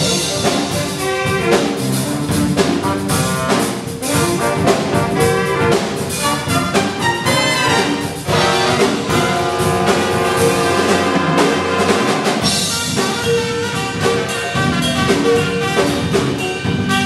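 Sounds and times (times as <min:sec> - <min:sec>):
jazz big band playing: 0:00.0 - 0:17.0.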